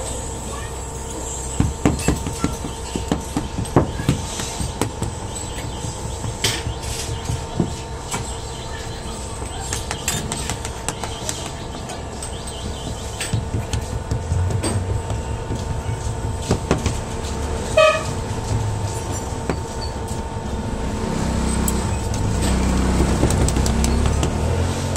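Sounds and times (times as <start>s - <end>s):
steady mechanical hum: 0.0s - 24.9s.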